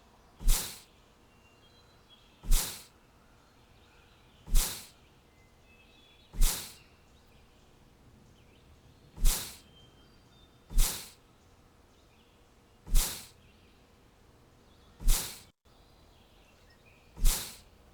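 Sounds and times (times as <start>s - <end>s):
faint high bird chirps: 0.0s - 14.0s, 14.6s - 17.9s.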